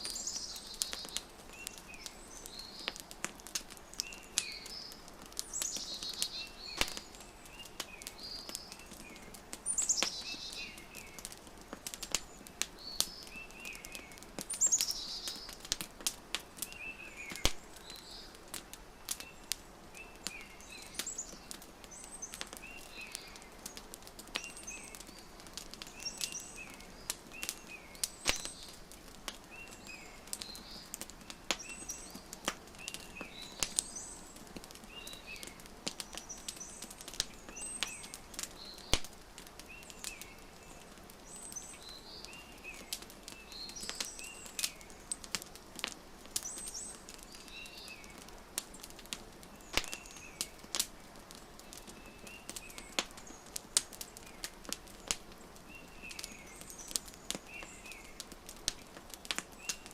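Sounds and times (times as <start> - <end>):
fireplace crackling and popping: 0.0 - 59.9
small birds chirping: 0.0 - 59.9.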